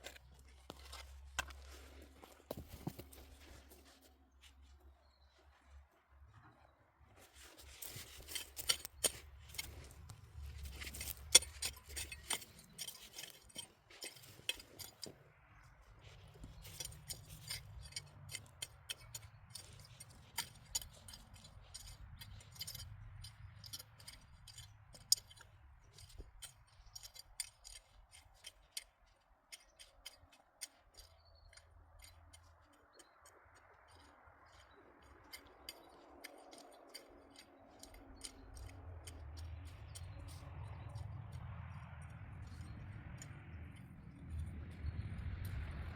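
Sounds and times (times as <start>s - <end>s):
potatoes and soil clicking and knocking: 0.0s - 45.9s.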